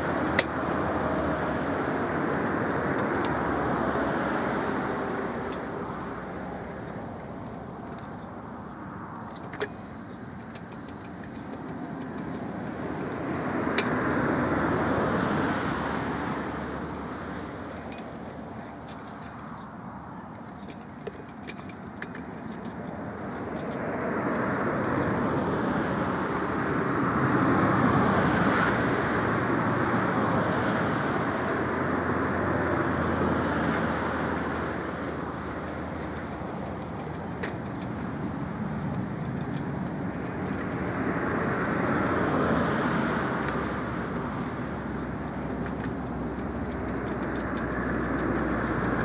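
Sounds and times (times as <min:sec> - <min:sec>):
road traffic passing: 0:00.0 - 0:49.0.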